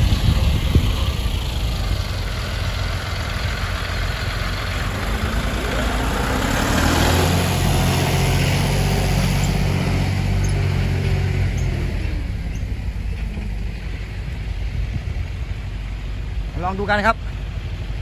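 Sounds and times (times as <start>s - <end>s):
truck diesel engine revving: 0.0s - 18.0s.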